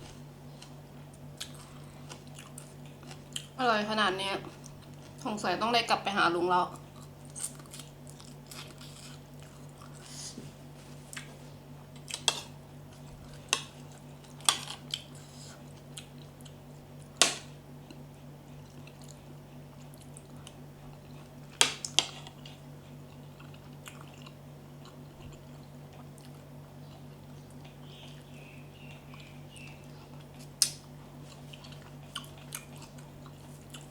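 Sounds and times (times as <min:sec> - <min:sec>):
close chewing and crunching: 0:00.1 - 0:03.6, 0:04.4 - 0:05.4, 0:06.7 - 0:17.2, 0:17.8 - 0:33.9.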